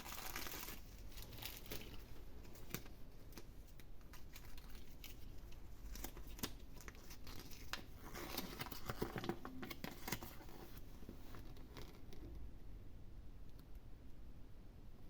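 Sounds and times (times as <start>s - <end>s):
packaging crinkling and tearing: 0.0s - 12.3s.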